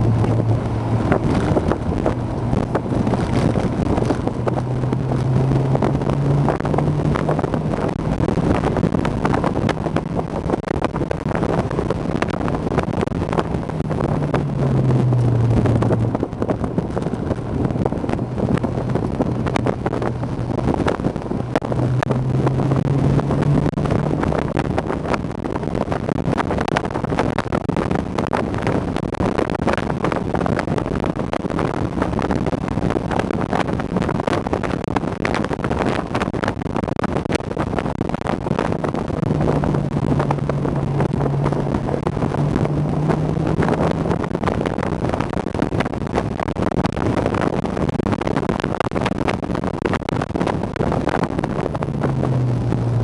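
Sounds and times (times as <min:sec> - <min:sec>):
car engine running: 0:00.0 - 0:53.0
wind rushing: 0:00.0 - 0:53.0.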